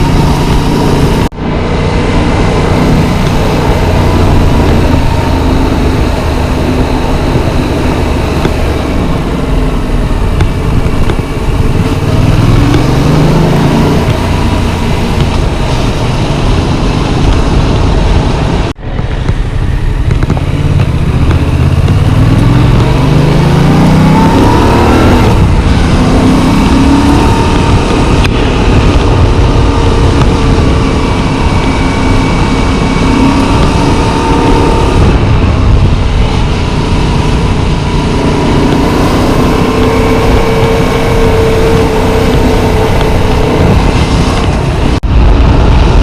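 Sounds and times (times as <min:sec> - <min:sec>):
motorcycle engine accelerating: 0:00.0 - 0:46.0
steady rushing noise: 0:00.0 - 0:46.0.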